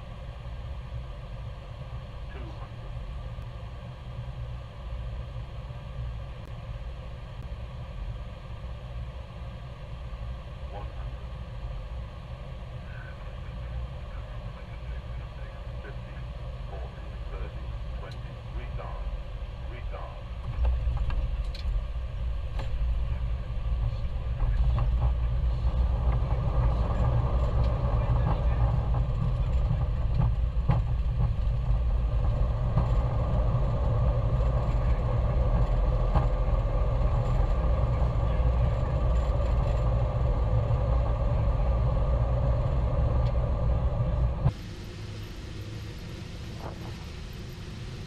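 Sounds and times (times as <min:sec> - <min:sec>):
jet flight deck rumble: 0:00.0 - 0:48.0.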